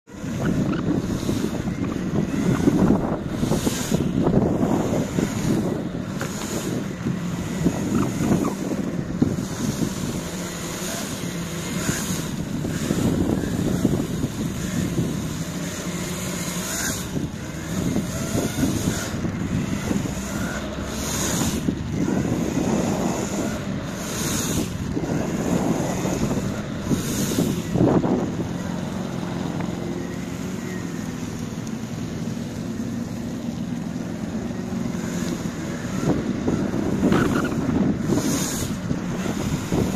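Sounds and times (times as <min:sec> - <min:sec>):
skateboard wheels rumbling on asphalt: 0:00.0 - 0:39.9
wind buffeting microphone: 0:00.1 - 0:39.9.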